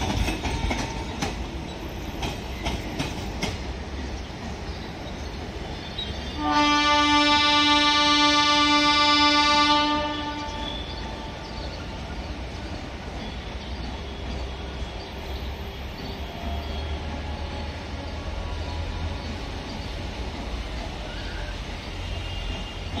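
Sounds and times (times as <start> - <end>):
train wheels rumbling over rails: 0.0 - 23.0.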